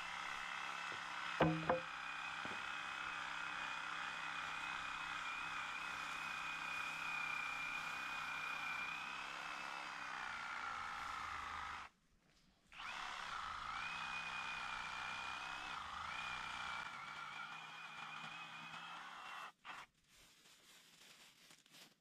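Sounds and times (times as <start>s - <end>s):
power tool motor whining: 0.0s - 11.9s, 12.8s - 19.9s.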